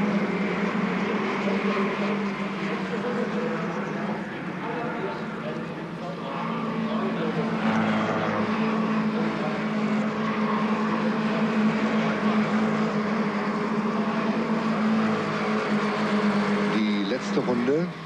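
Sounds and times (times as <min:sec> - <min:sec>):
race car engines at high revs: 0:00.0 - 0:18.0.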